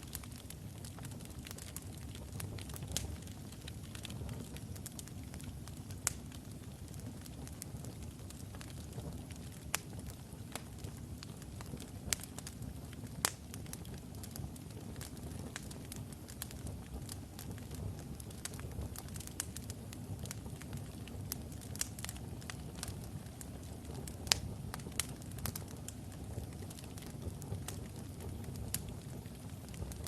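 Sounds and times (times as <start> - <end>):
fire crackles and pops: 0.0 - 30.0
loud snaps of burning wood: 0.0 - 30.0
low rumble of flames: 0.0 - 30.0.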